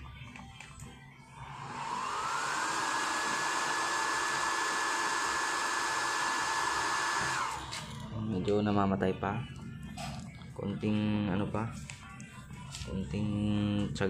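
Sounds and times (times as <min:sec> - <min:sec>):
blower fan motor whine: 0:00.0 - 0:11.6.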